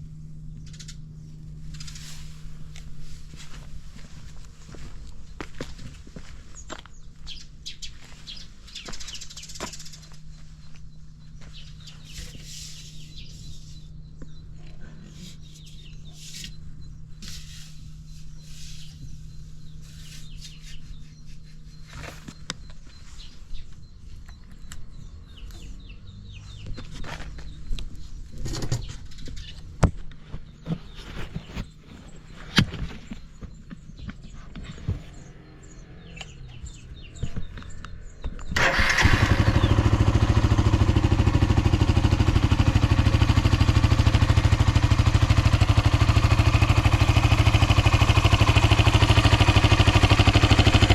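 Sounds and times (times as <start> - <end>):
motorcycle engine idling: 0.0 - 29.6, 35.1 - 50.9.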